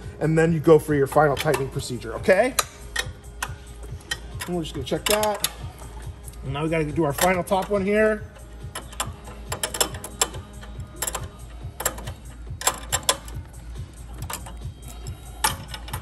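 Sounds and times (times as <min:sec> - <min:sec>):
metal wrench clicking: 0:01.0 - 0:16.0.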